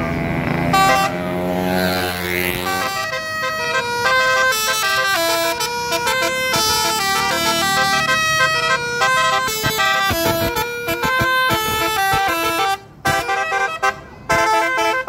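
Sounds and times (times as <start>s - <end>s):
multi-trumpet air horn tune: 0.7s - 15.0s.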